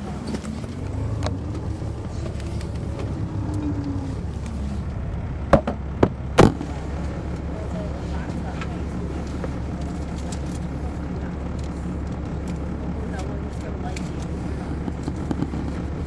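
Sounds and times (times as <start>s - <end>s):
diesel bus engine drone: 0.0s - 16.0s
faint whine: 0.0s - 16.0s.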